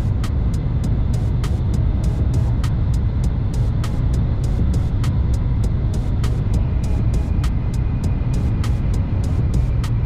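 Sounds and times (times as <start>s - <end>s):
train running low rumble: 0.0s - 10.0s.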